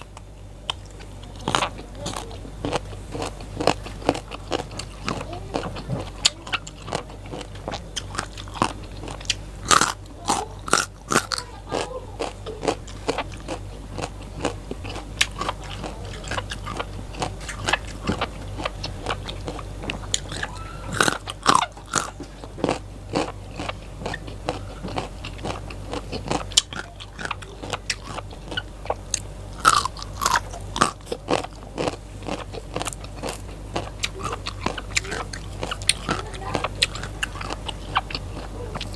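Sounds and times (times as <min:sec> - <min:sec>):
person crunching raw vegetables: 0:00.0 - 0:38.9.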